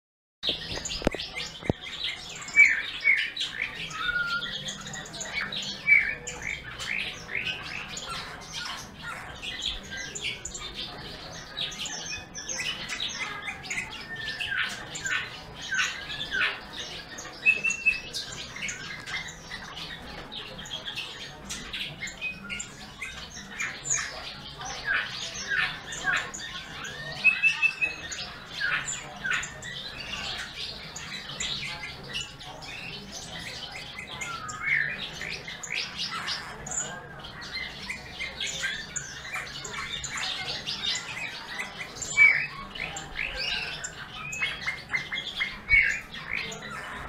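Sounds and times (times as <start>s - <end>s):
songbirds singing: 0.4s - 47.0s.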